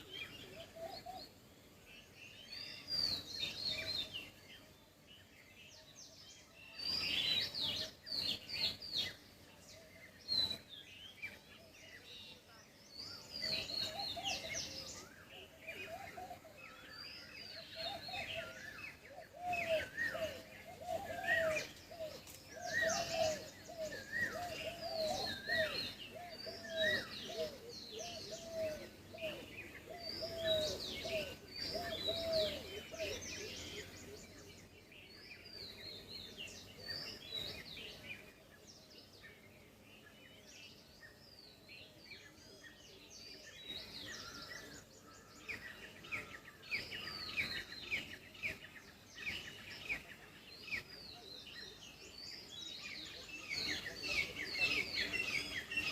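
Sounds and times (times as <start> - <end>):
birds chirping and whistling: 0.0 - 12.3, 12.9 - 39.4, 40.0 - 55.9
low repeated bird call: 0.0 - 55.9.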